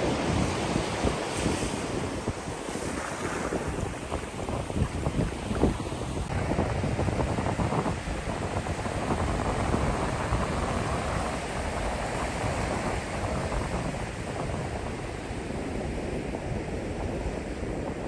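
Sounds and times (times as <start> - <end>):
surf washing onto beach: 0.0 - 18.0
wind on microphone: 0.0 - 18.0.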